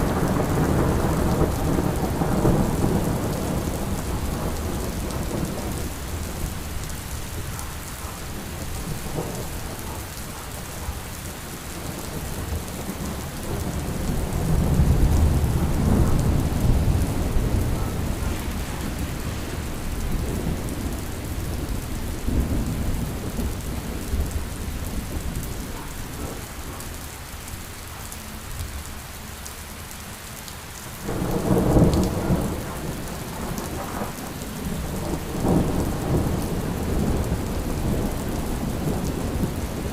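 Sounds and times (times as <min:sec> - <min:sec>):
rolling thunder: 0:00.0 - 0:26.8, 0:31.0 - 0:39.9
steady rain: 0:00.0 - 0:39.9.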